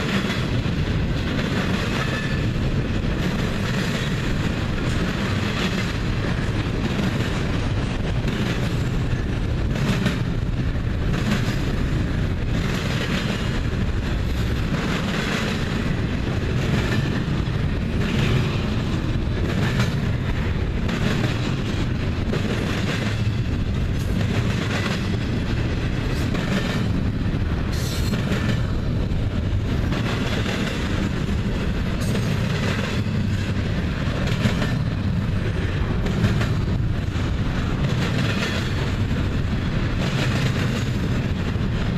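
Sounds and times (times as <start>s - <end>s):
freight train rumbling: 0.0s - 41.9s.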